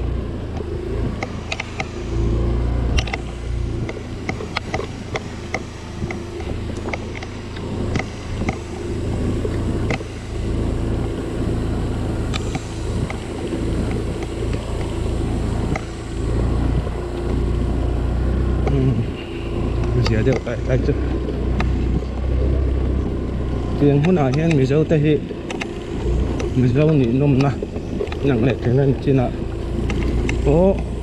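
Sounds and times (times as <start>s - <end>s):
motorcycle engine rumble: 0.0s - 31.0s.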